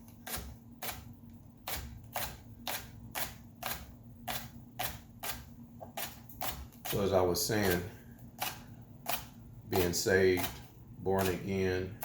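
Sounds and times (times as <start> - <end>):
knife chopping on cutting board: 0.2 - 12.0.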